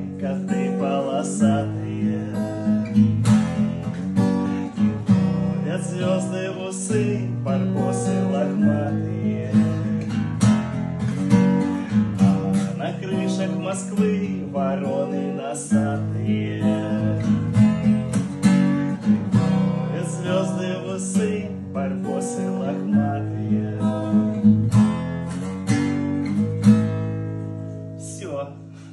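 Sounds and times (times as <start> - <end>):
acoustic guitar strumming: 0.0 - 28.9.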